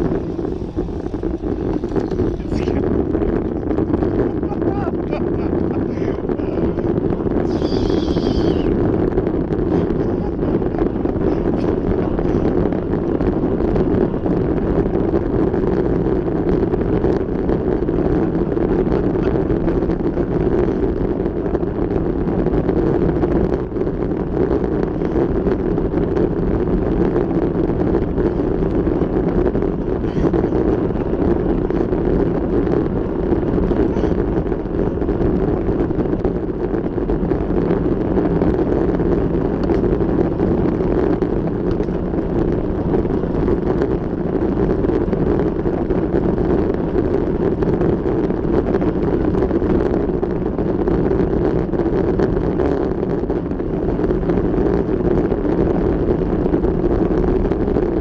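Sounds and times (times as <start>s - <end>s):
vehicle running noise: 0.0s - 58.0s
wind buffeting microphone: 0.0s - 58.0s.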